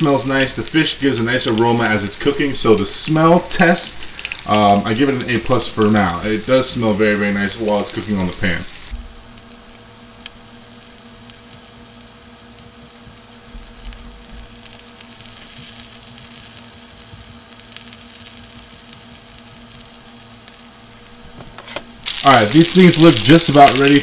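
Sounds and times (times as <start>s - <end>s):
fish sizzling in oil: 0.0s - 24.0s
oil popping and crackling: 0.0s - 24.0s.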